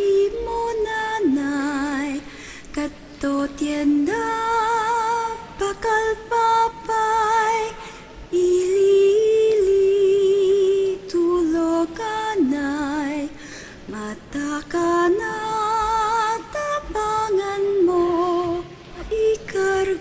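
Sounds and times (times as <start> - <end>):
woman singing with vibrato: 0.0 - 20.0.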